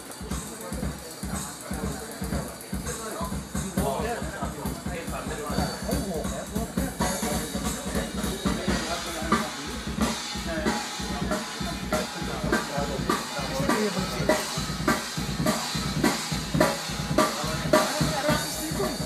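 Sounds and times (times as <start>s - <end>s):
drum kit beat: 0.0s - 19.0s
music over loudspeakers: 3.3s - 19.0s.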